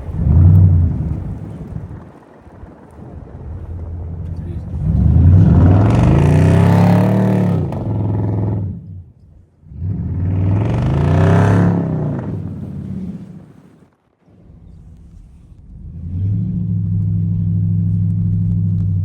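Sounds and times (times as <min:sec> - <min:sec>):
car engine revving: 0:00.0 - 0:02.0, 0:03.7 - 0:13.8, 0:14.4 - 0:19.0.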